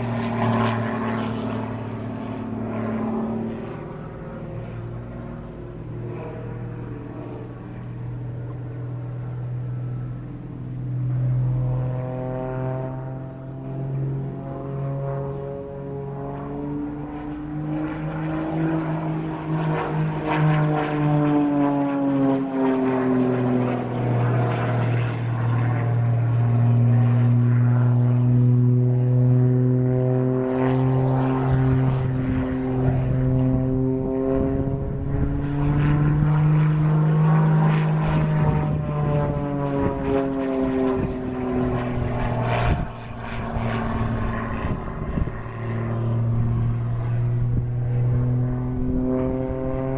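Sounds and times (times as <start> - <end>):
propeller plane engine drone: 0.0 - 49.9.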